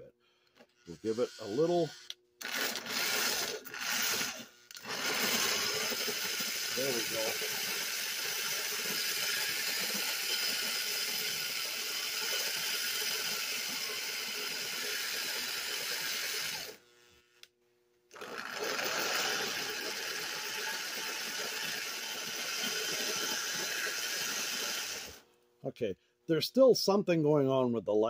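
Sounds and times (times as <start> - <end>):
toy train motor whirring: 0.6 - 16.8, 18.1 - 25.2.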